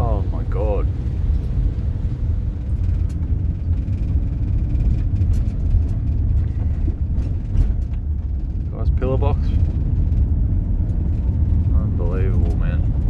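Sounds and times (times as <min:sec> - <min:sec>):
vehicle rumble on wet road: 0:00.0 - 0:13.0.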